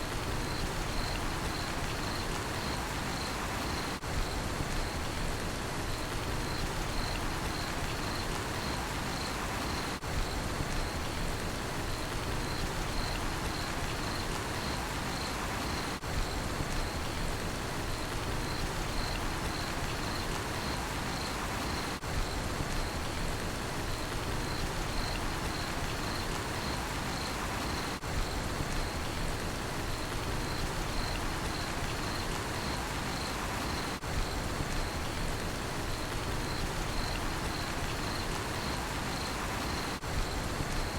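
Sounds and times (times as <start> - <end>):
steady rain falling: 0.0 - 40.9
crickets chirping: 0.2 - 5.2, 5.9 - 17.2, 17.8 - 23.2, 23.8 - 40.9.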